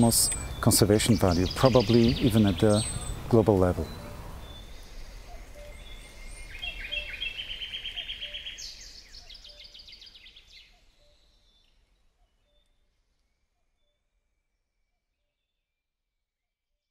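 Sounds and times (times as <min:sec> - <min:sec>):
bird singing: 0:00.0 - 0:15.7.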